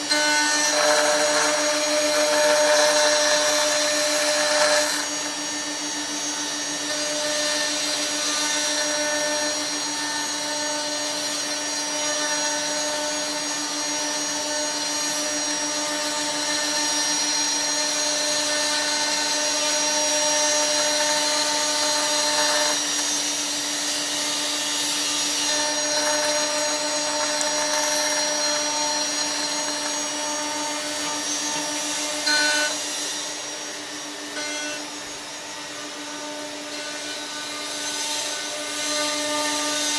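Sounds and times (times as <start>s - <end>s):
cutter milling wood: 0.0s - 39.9s
electric spindle running high-pitched: 0.0s - 39.9s.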